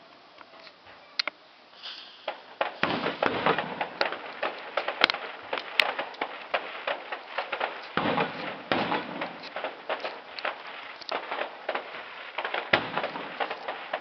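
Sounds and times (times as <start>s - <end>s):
fireworks cracks and pops: 0.0s - 14.0s
deep firework booms: 2.2s - 14.0s.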